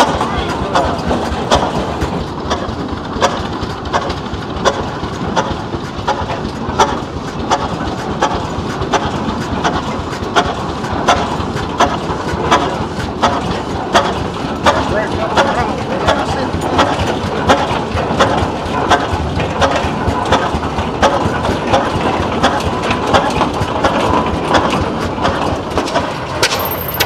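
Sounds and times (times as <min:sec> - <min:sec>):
tractor engine exhaust pops: 0:00.0 - 0:15.5, 0:16.1 - 0:27.0
tractor mechanical rumble: 0:00.0 - 0:27.0.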